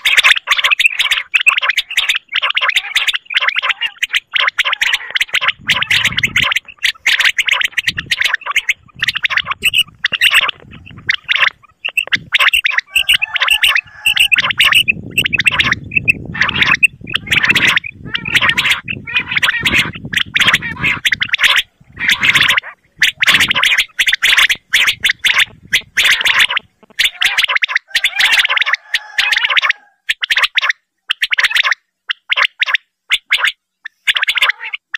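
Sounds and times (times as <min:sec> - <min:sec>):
quail calling: 0:00.0 - 0:34.9.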